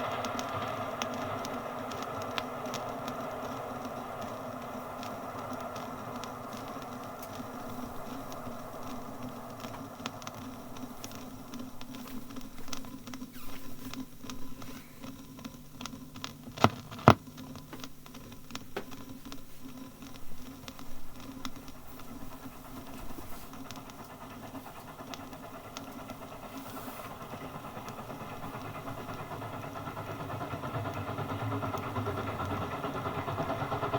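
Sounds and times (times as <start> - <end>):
faint railway background: 0.0 - 13.1, 18.8 - 33.9
record clicks and crackle: 0.1 - 29.8.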